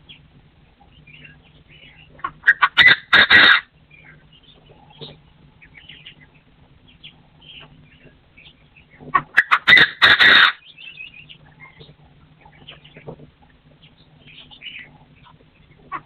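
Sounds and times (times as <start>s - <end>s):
partridge calling: 0.0s - 16.0s
small birds chirping: 0.0s - 16.0s.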